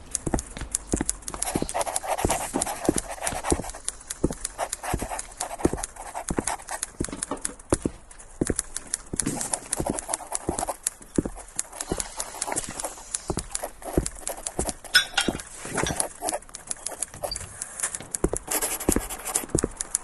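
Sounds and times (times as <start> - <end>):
sharp knocks or clicks: 0.0 - 20.0.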